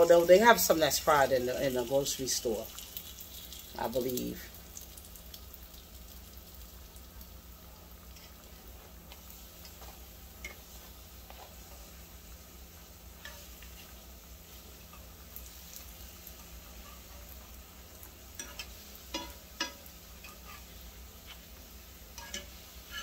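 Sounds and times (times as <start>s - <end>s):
chips sizzling in oil: 0.0s - 23.0s.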